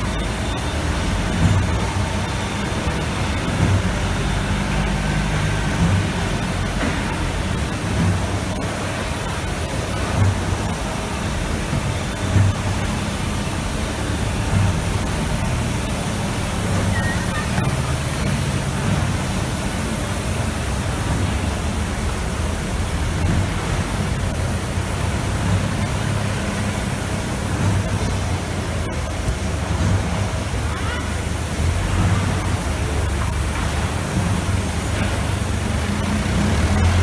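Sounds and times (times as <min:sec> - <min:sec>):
machine hiss: 0:00.0 - 0:37.0.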